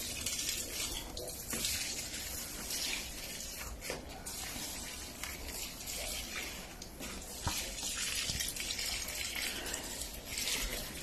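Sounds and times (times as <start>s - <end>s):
water pouring onto soil: 0.0s - 11.0s.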